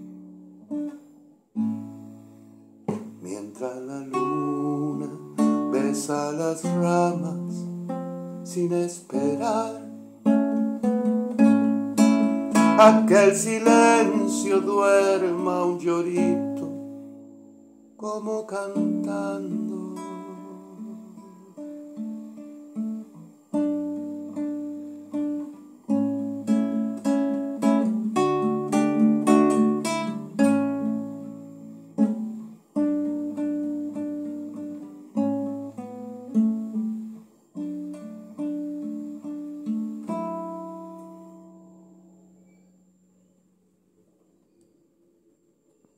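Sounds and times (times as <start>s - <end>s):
acoustic guitar playing: 0.0s - 44.4s.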